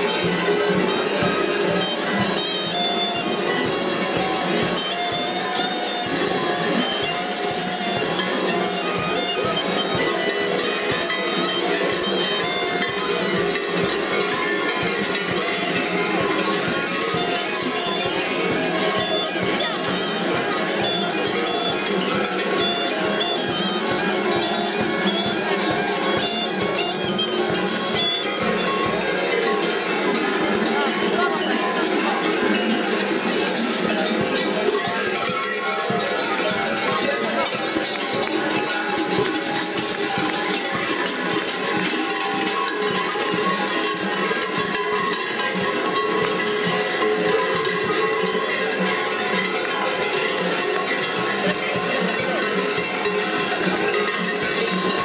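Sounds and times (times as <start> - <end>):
large metal bells clanging: 0.0 - 55.0.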